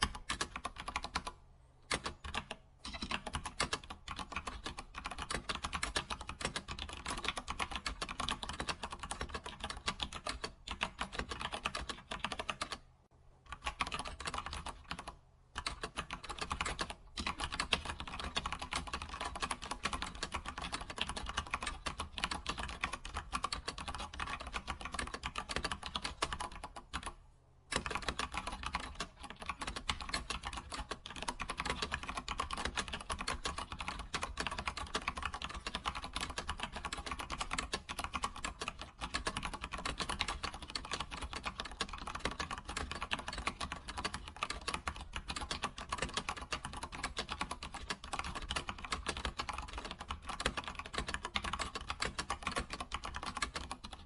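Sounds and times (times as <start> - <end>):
computer keyboard typing: 0.0 - 12.8, 13.5 - 54.0.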